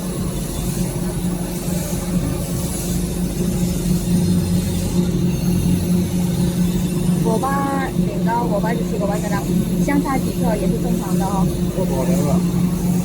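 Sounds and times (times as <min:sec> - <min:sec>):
machinery droning: 0:00.0 - 0:13.0.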